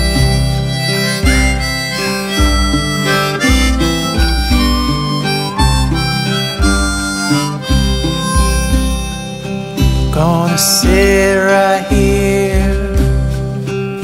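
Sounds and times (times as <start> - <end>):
guitar accompaniment: 0.0 - 14.0
harmonica melody: 0.0 - 14.0.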